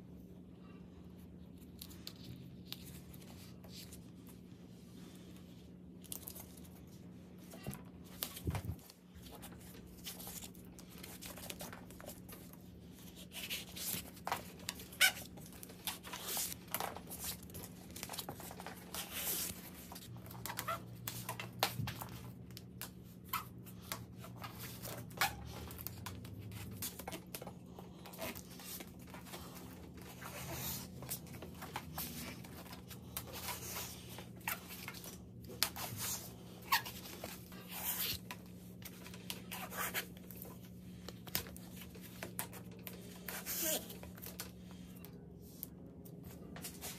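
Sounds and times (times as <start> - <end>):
rustling and crinkling handling: 1.2 - 46.9.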